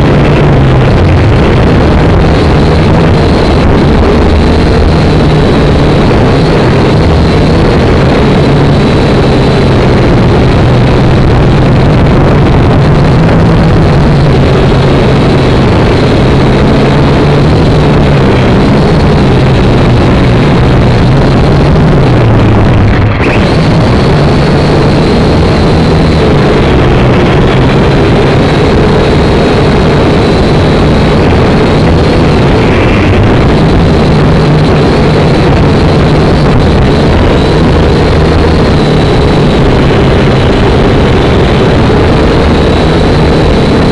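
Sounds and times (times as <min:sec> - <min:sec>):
quadcopter propellers buzzing: 0:00.0 - 0:43.9.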